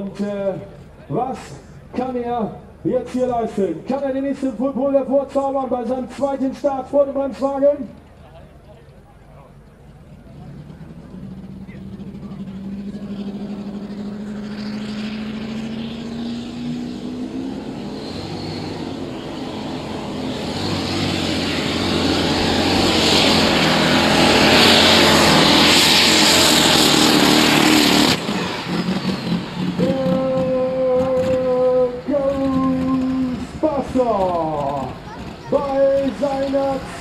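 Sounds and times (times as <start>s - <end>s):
tractor engine revving: 0.0s - 37.0s.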